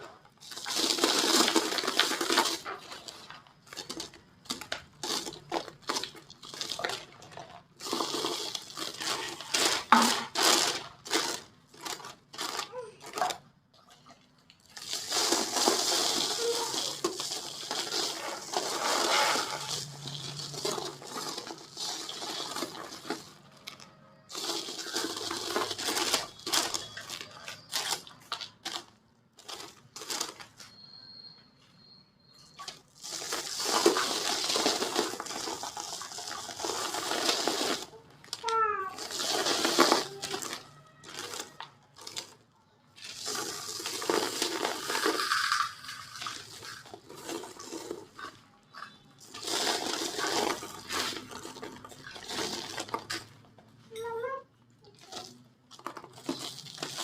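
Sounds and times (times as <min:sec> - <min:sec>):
dry cement crumbling by hand: 0:00.0 - 0:30.6, 0:32.7 - 0:42.4, 0:43.0 - 0:53.4.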